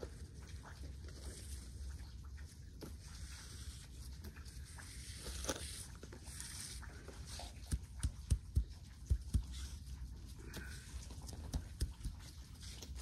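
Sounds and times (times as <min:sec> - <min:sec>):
rustle and scratch of fibres: 0:00.0 - 0:13.0.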